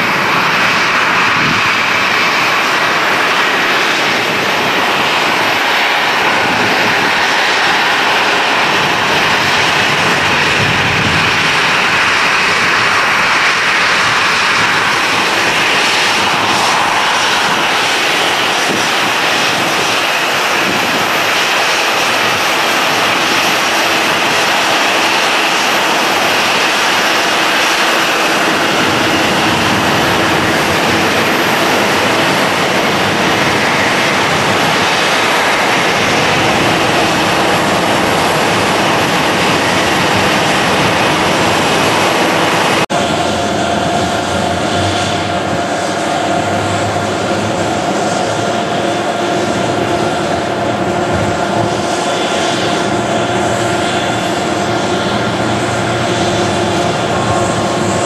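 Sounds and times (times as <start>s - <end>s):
jet engines hissing at low power: 0.0s - 58.0s
taxiing airliner engines whining: 0.0s - 58.0s.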